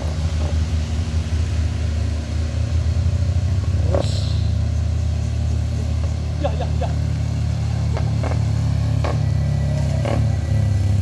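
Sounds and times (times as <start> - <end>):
truck diesel engine climbing: 0.0 - 11.0.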